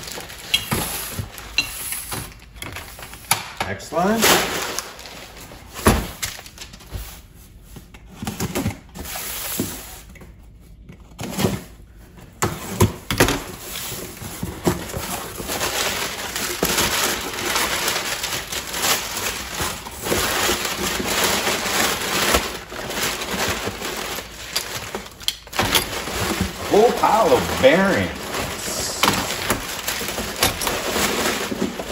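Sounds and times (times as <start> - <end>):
plastic and cardboard crinkling: 0.0 - 31.9.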